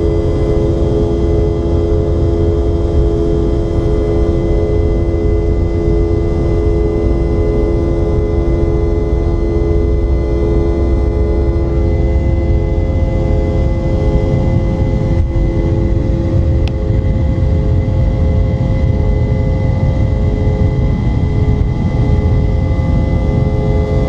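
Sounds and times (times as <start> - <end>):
jet engine roar in cabin: 0.0 - 24.0
steady whining tones: 0.0 - 24.0.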